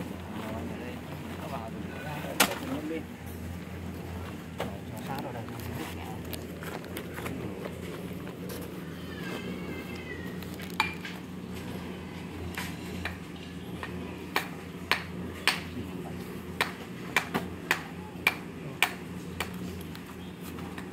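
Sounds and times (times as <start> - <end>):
low machine hum: 0.0 - 20.9.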